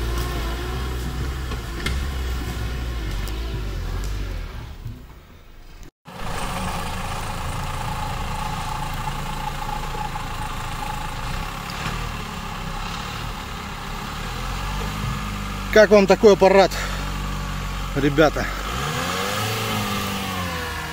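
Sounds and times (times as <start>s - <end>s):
off-road vehicle engine running: 0.0s - 20.9s.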